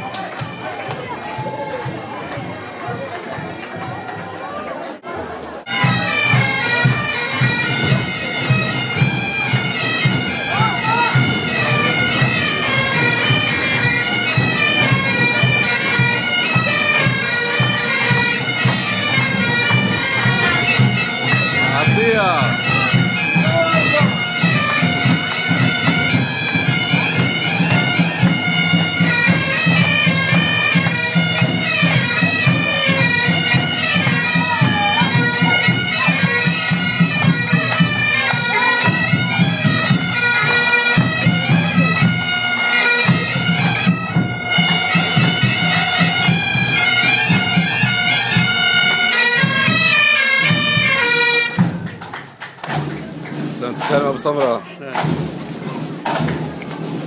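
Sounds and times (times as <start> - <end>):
bagpipe band playing: 0.0 - 4.3, 5.7 - 57.0.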